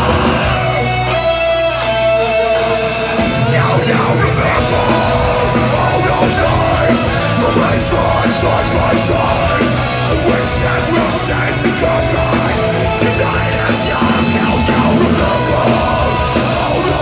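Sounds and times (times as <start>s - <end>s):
bass and drums: 0.0s - 17.0s
distorted electric guitars: 0.0s - 17.0s.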